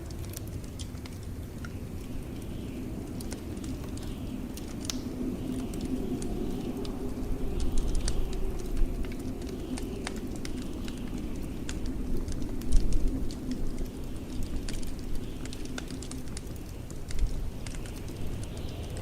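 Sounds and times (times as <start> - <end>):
blizzard wind rumble: 0.0 - 19.0
wood fire crackling: 0.0 - 19.0.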